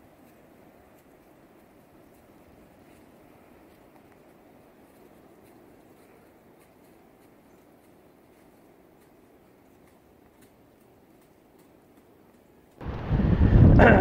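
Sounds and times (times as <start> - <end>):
soft ticks and rustles: 0.0 - 12.8.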